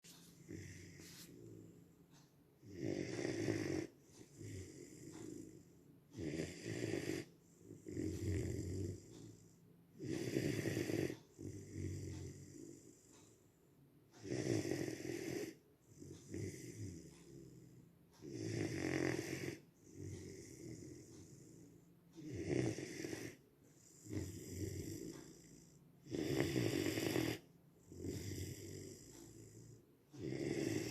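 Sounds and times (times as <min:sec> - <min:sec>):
puppy snoring: 0:00.1 - 0:30.9.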